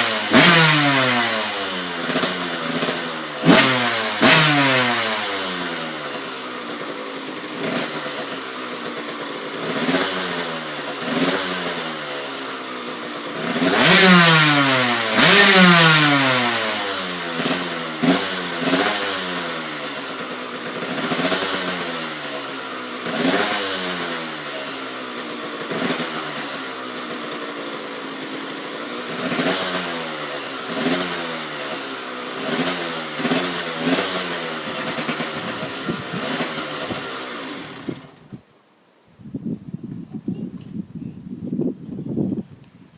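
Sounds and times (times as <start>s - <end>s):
two-stroke engine revving: 0.0s - 38.4s.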